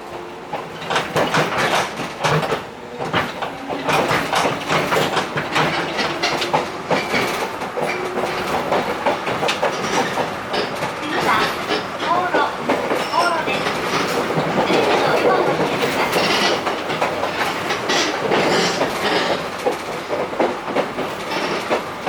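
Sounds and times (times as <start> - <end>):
train wheels clickety-clack: 0.0 - 22.0
gangway plates clattering: 0.6 - 22.0.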